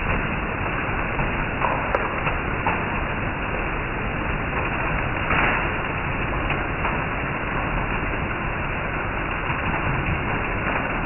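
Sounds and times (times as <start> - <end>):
heavy rain on leaves: 0.0 - 11.0.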